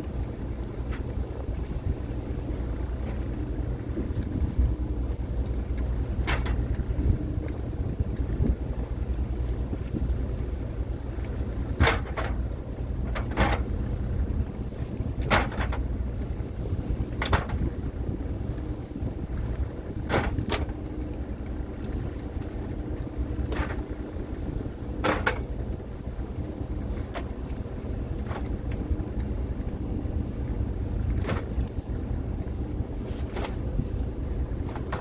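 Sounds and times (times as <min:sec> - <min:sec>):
boat engine and hull rumble: 0:00.0 - 0:35.0
wind on microphone: 0:00.0 - 0:35.0.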